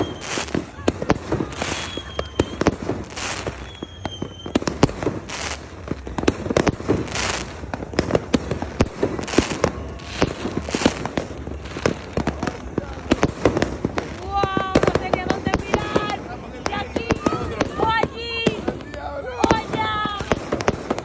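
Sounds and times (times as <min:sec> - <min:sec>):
faint firework whistle: 0:00.0 - 0:21.0
fireworks bangs: 0:00.0 - 0:21.0
fireworks crackling hiss: 0:00.0 - 0:21.0.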